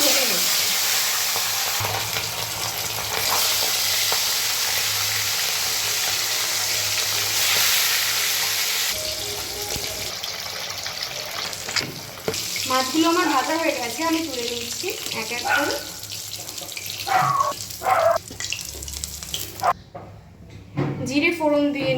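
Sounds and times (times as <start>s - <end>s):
fish sizzling in hot oil: 0.0s - 19.7s.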